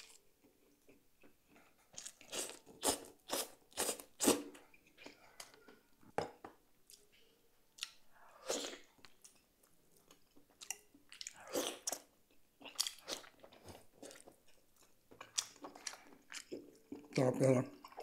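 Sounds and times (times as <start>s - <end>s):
person chewing meat: 0.0s - 5.5s, 7.8s - 17.2s.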